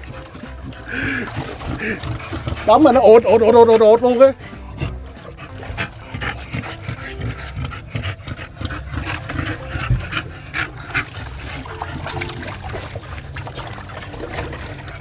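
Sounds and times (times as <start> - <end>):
dogs grunting and breathing: 0.0 - 15.0
water splashing: 0.0 - 15.0.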